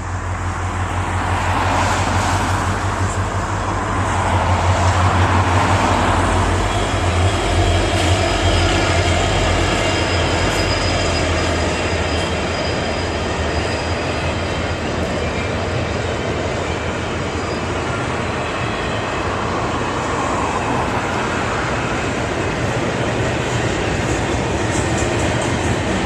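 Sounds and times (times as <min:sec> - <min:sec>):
diesel locomotive rumble: 0:00.0 - 0:26.0
train wheels rolling on rail: 0:00.0 - 0:26.0.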